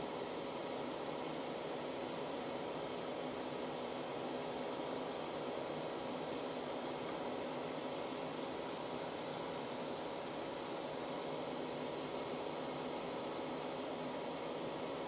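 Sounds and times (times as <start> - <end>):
spray booth fan whirring: 0.0 - 15.0
airbrush air hiss: 1.3 - 8.3, 9.1 - 15.0.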